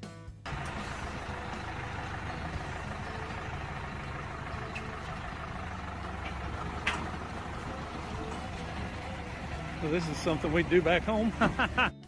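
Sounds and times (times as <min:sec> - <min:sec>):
vehicle engine running steadily: 0:00.5 - 0:12.0
wagon rattle: 0:00.5 - 0:12.0.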